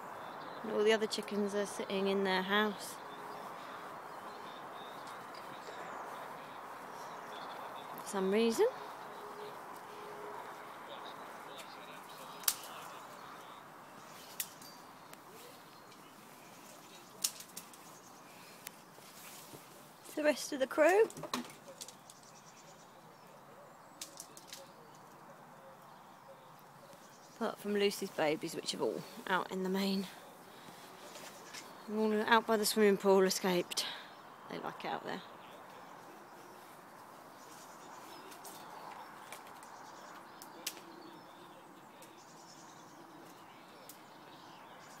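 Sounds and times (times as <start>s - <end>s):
rustling of dry leaves: 0.0s - 45.0s.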